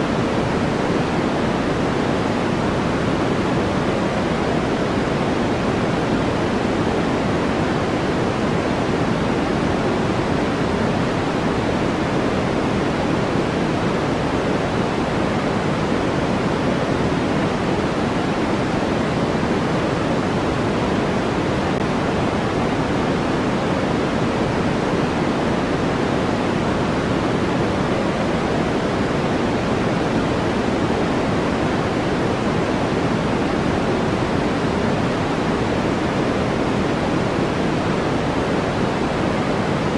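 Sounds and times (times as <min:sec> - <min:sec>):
steady low white noise: 0:00.0 - 0:39.9.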